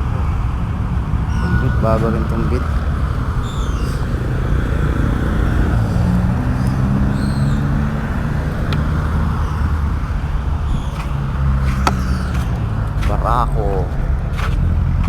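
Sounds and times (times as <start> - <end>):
road traffic noise: 0.0 - 15.0
vehicle engines running: 0.0 - 15.0.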